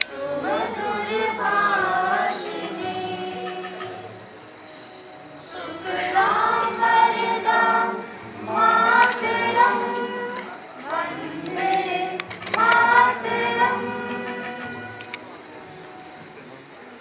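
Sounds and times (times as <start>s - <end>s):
group singing into a microphone: 0.0s - 4.4s, 5.4s - 15.3s.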